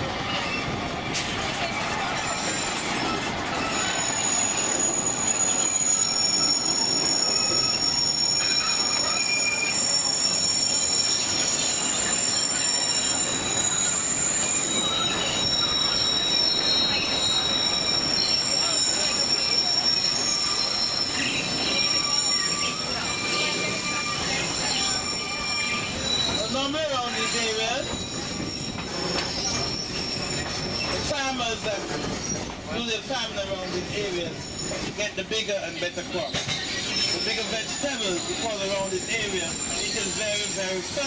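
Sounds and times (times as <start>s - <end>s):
train cars rumbling on track: 0.0s - 41.0s
train wheels squealing on rails: 0.0s - 41.0s.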